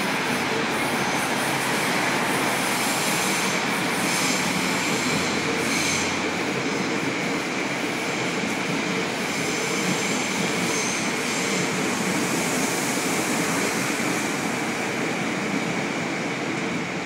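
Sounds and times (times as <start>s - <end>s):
electric train whine: 0.0s - 17.0s.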